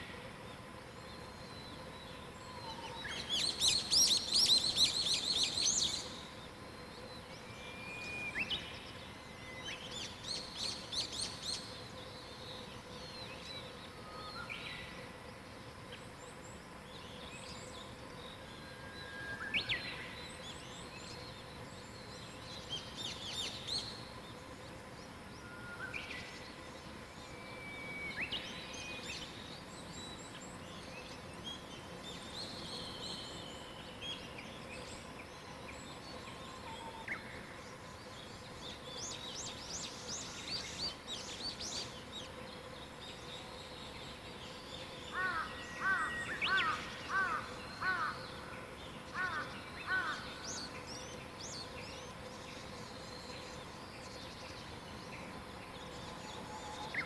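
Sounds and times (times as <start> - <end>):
faint steady hum: 0.0 - 57.0
songbirds chirping and whistling: 1.1 - 15.0, 16.2 - 57.0.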